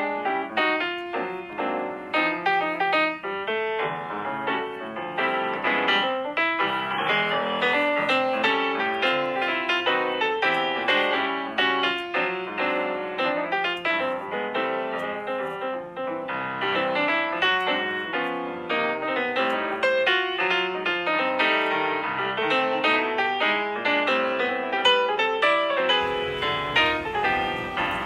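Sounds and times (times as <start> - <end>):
piano music: 0.0 - 24.7, 26.0 - 28.0.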